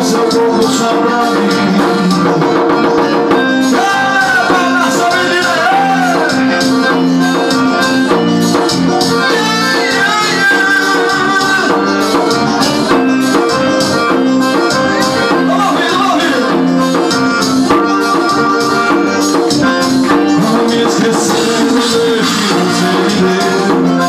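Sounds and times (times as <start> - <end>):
electronic keyboard melody: 0.0 - 24.0.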